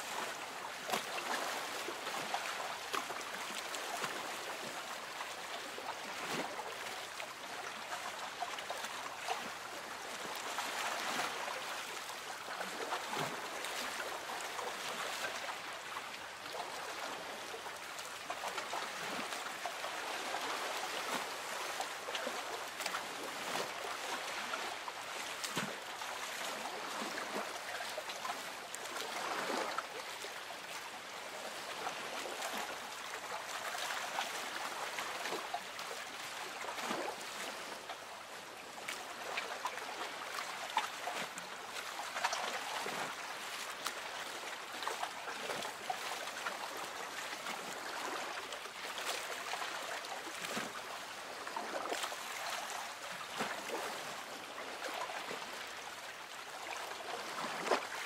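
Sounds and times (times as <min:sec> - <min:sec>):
water lapping against boat hull: 0:00.5 - 0:58.0.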